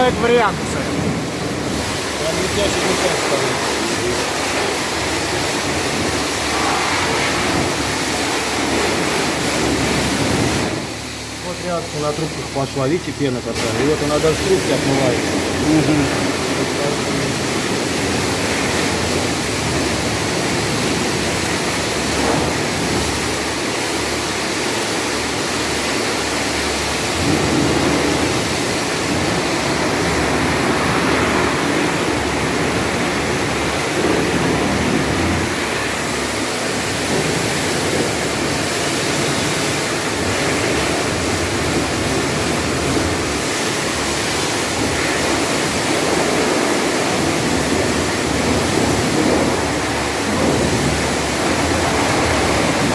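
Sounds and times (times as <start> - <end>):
high-pressure water spray: 0.0 - 52.9.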